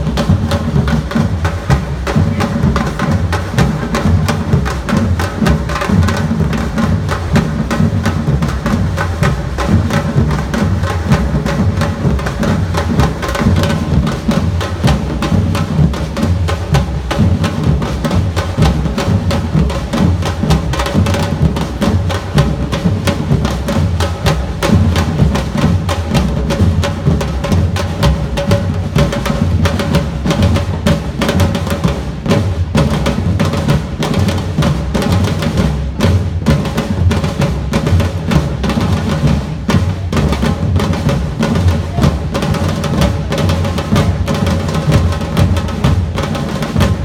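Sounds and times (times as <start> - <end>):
street percussion band playing: 0.0 - 47.0.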